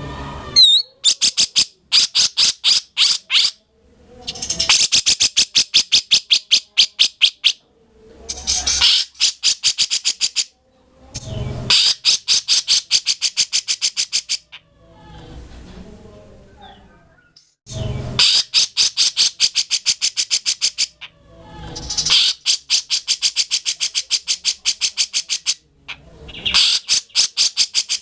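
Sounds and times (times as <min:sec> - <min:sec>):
bird singing rapid phrases: 0:00.6 - 0:03.6, 0:04.2 - 0:07.6, 0:08.3 - 0:10.5, 0:11.1 - 0:14.7, 0:16.4 - 0:28.0.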